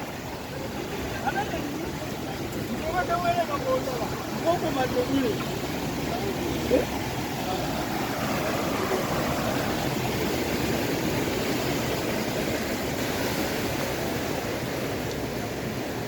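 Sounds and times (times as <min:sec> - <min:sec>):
water rushing in a stream: 0:00.0 - 0:16.0.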